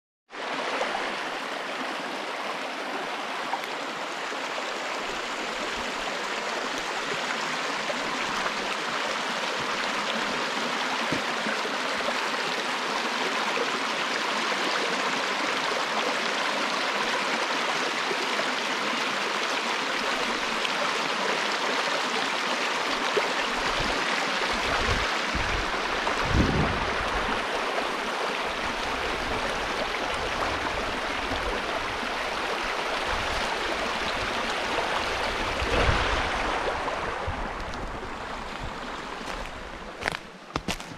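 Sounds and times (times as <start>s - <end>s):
stream running over stones: 0.3s - 40.9s.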